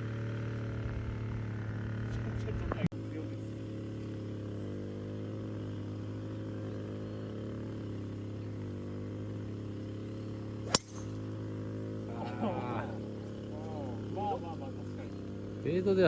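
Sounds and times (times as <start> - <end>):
golf cart motor hum: 0.0 - 16.0.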